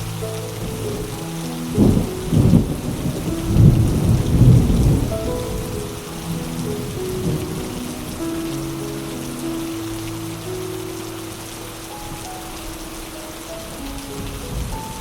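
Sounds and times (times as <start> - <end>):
soft background music: 0.0 - 15.0
steady rain: 0.0 - 15.0
thunder rumbling: 0.0 - 15.0.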